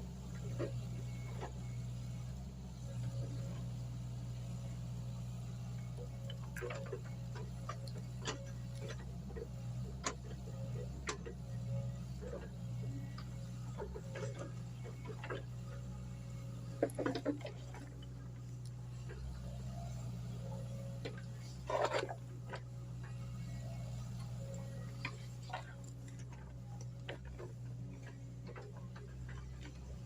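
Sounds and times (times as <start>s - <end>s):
excavator engine droning: 0.0s - 30.0s.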